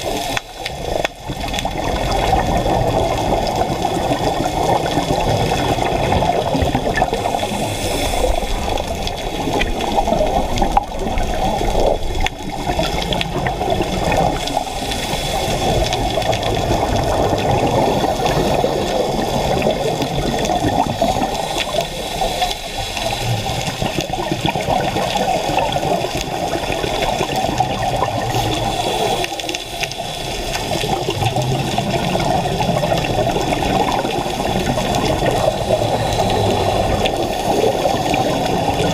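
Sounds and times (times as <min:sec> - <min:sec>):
underwater regulator bubbling: 0:00.0 - 0:38.9.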